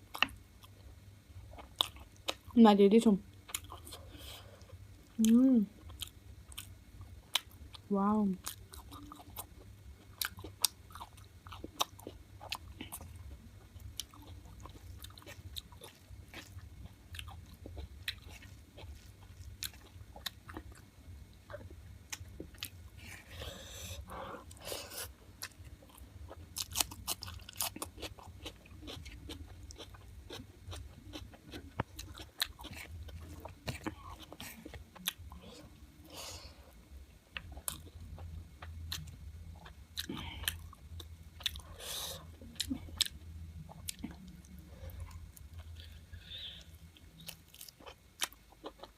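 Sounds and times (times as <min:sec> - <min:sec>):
chewing crunchy food: 0:00.0 - 0:02.6, 0:03.4 - 0:48.9.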